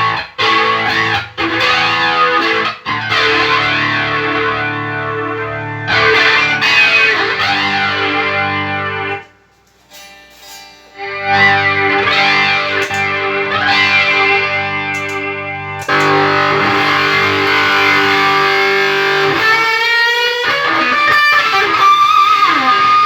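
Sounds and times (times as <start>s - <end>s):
electric guitar chords with effect: 0.0s - 9.3s, 11.0s - 23.0s.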